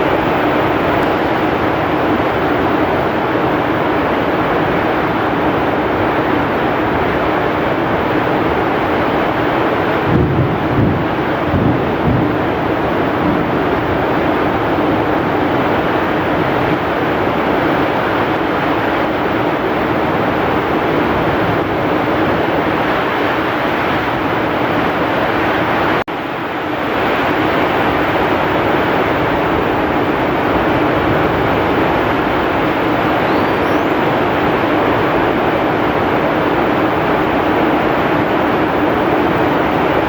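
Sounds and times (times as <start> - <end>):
heavy rain: 0.0 - 40.0
strong wind: 0.0 - 40.0.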